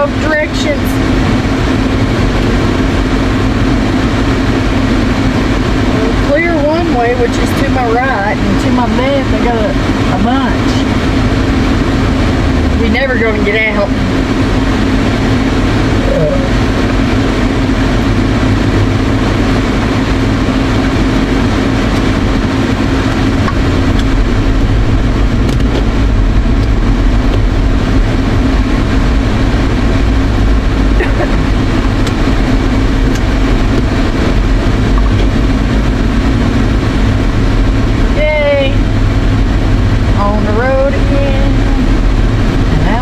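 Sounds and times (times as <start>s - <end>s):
air-conditioning blower rushing: 0.0s - 43.0s
car engine idling: 0.0s - 43.0s.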